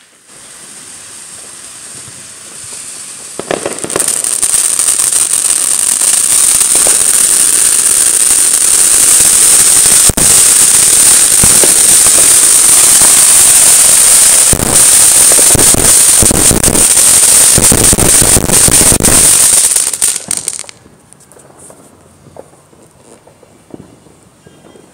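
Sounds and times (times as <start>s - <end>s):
fountain fireworks hissing: 0.0s - 24.4s
fireworks crackling: 0.0s - 24.9s.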